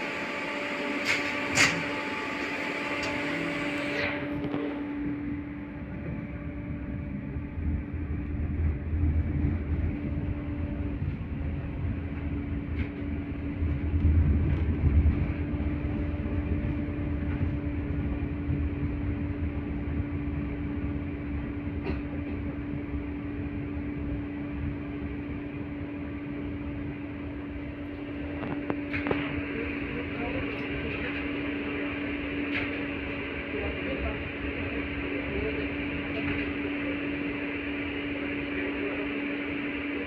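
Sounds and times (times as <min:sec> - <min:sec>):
constant hum: 0:00.0 - 0:40.0
tram wheels rumbling: 0:00.0 - 0:40.0.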